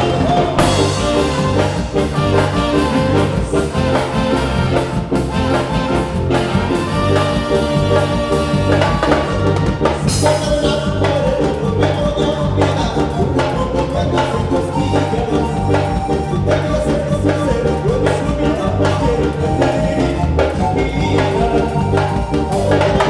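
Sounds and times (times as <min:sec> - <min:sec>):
drum kit steady beat: 0:00.0 - 0:23.0
latin dance band playing: 0:00.0 - 0:23.0.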